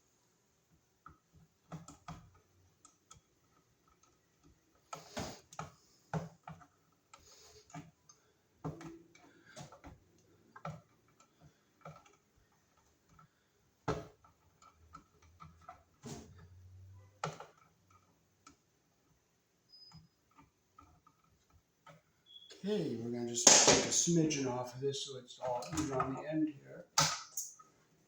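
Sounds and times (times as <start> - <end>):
wire strippers clicking and snapping: 1.0 - 19.2, 20.2 - 22.4, 23.4 - 24.3, 25.4 - 27.7.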